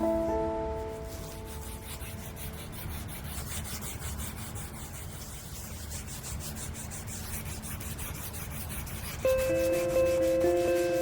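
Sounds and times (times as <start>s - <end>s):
hand sanding strokes: 0.8s - 11.0s.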